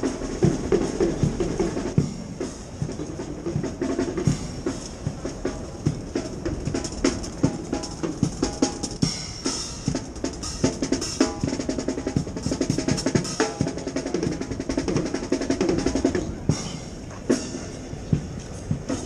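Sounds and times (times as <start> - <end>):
fast snare drum strokes: 0.0 - 16.8.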